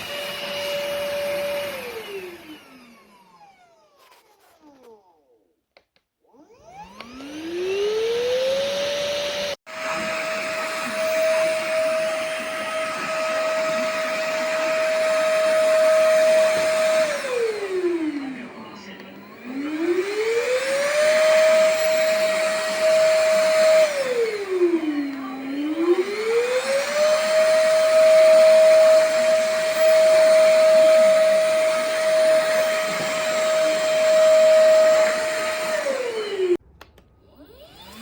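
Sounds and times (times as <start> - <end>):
stick vacuum motor whine: 0.0 - 5.3, 6.3 - 36.6, 37.3 - 38.0.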